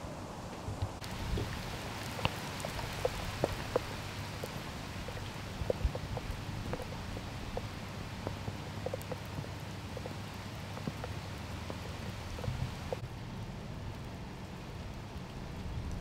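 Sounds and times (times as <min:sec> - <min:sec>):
steady rain falling: 0:00.0 - 0:16.0
raindrops ticking on a surface: 0:00.5 - 0:16.0.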